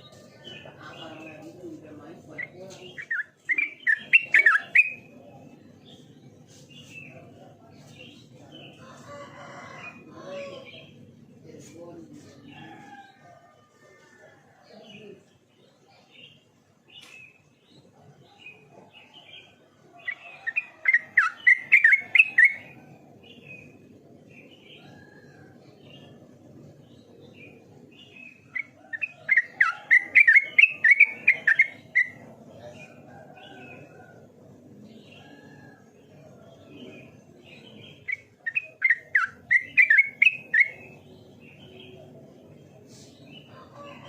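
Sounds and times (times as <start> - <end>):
bird chirping: 0.0 - 9.0, 15.0 - 44.0
low background noise: 0.0 - 44.0.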